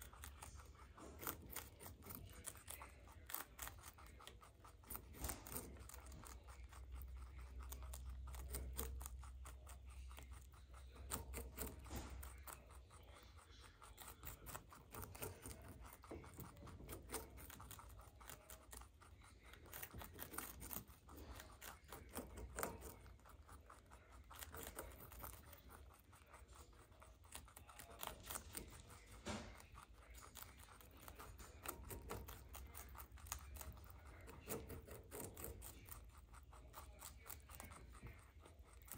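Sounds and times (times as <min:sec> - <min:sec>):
rabbits crunching cabbage leaves: 0:00.0 - 0:38.9.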